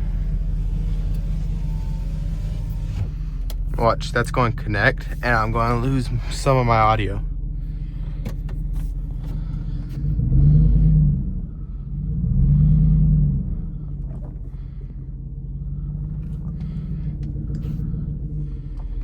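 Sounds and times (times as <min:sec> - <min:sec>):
truck engine revving: 0:00.0 - 0:07.1, 0:09.3 - 0:19.0.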